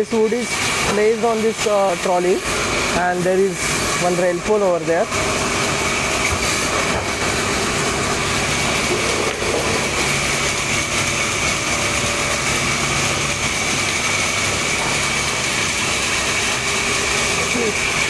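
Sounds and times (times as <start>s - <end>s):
sawmill machinery hum: 0.0s - 18.0s.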